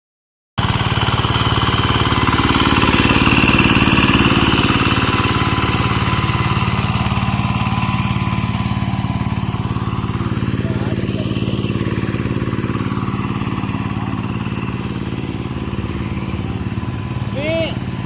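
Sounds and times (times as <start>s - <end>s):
diesel engine knocking steadily: 0.6s - 18.0s.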